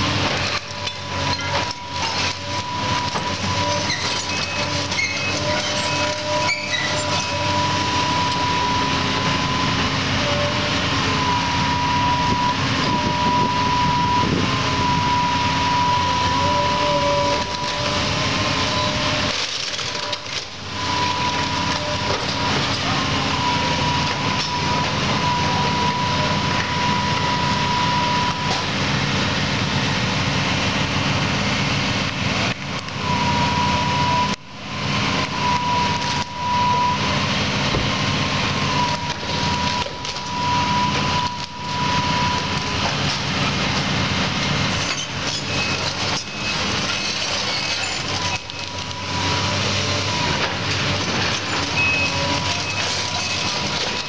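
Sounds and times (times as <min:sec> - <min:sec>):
excavator engine running: 0:00.0 - 0:54.0
high whine: 0:00.0 - 0:54.0.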